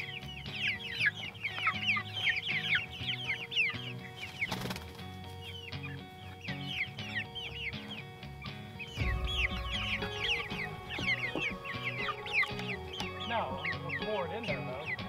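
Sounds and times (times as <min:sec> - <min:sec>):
chicks peeping: 0:00.0 - 0:15.0
quiet background music: 0:00.0 - 0:15.0.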